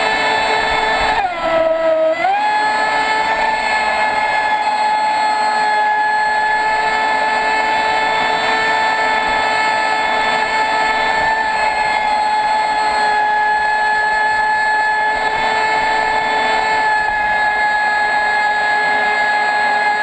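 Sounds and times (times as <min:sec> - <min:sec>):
electric motor high-pitched whine: 0:00.0 - 0:20.0.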